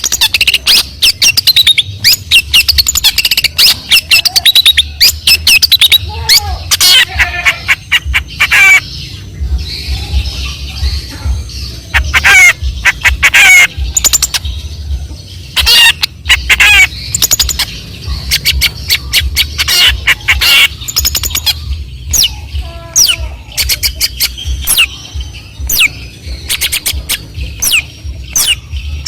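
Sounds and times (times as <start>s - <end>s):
shrike chattering song: 0.0s - 29.0s.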